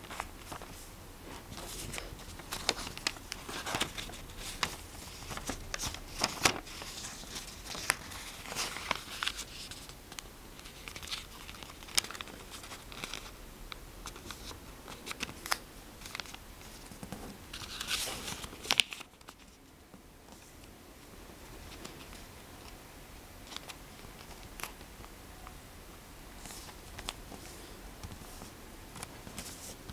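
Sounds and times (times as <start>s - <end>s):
paper crinkling and creasing: 0.0s - 13.4s, 14.0s - 19.7s, 23.4s - 25.1s, 26.3s - 29.9s.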